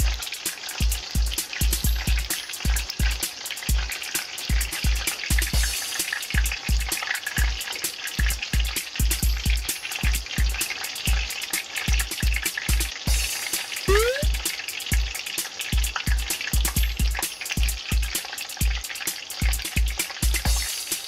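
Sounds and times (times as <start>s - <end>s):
background music with drum beat: 0.0s - 21.0s
fish deep-frying in oil: 0.0s - 21.0s.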